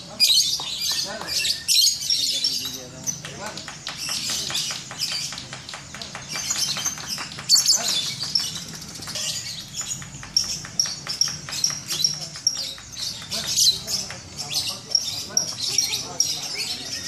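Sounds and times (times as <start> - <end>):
lovebirds chattering: 0.0 - 17.0.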